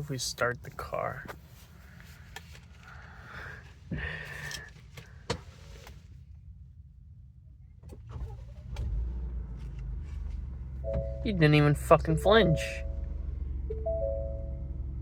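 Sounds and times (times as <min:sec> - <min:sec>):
car engine cranking and idling: 0:00.0 - 0:15.0.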